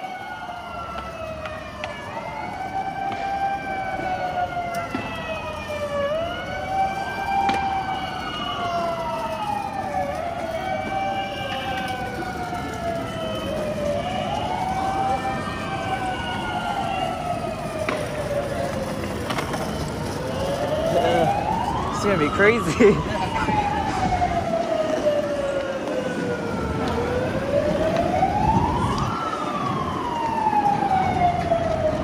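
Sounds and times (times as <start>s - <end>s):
emergency sirens wailing: 0.0s - 32.0s
street rumble: 0.0s - 32.0s.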